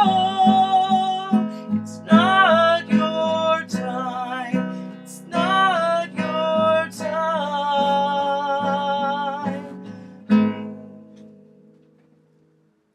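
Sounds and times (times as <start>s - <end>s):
acoustic guitar strumming: 0.0s - 12.7s.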